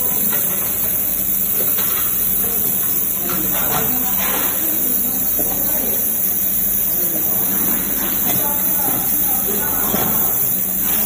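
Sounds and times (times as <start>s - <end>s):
laser welder hissing: 0.0s - 11.0s.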